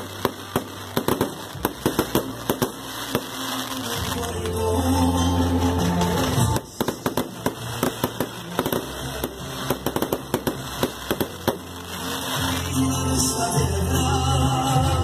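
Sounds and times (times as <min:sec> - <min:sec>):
fireworks bursting and crackling: 0:00.0 - 0:15.0
music with steady bass: 0:00.0 - 0:15.0.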